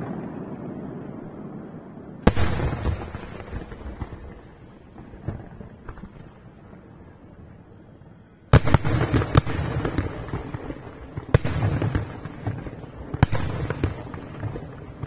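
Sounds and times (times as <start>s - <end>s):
firework crackle: 0.0s - 15.0s.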